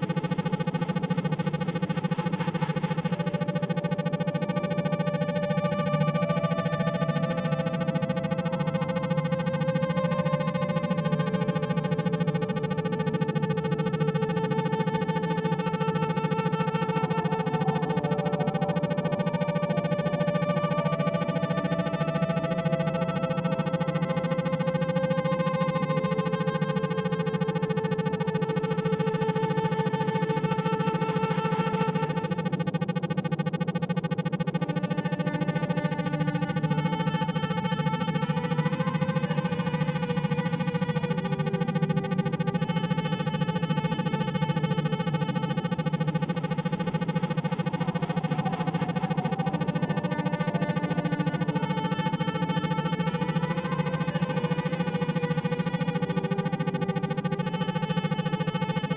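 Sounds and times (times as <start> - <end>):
synthesizer drone music: 0.0 - 58.9.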